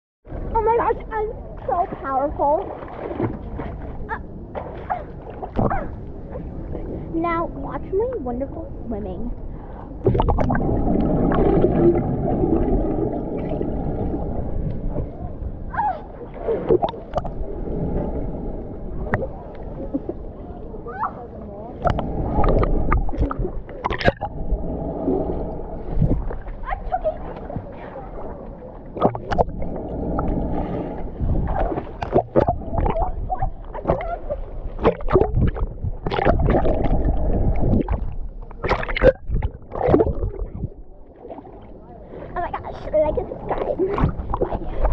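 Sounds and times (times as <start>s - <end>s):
muffled underwater pool noise: 0.3s - 44.9s
water bubbling: 0.3s - 44.9s
water splashes: 0.3s - 44.9s.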